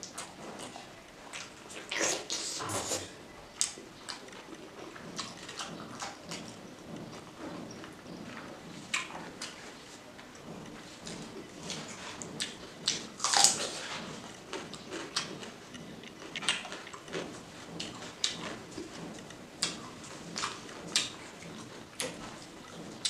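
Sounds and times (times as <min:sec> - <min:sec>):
wet chewing and mouth clicks: 0:00.0 - 0:23.0.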